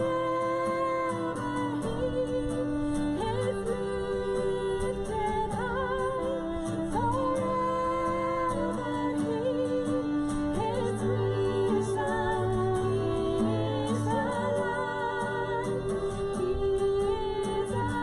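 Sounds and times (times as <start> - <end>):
strummed acoustic guitar: 0.0 - 18.0
violin: 0.0 - 18.0
woman singing: 0.0 - 18.0.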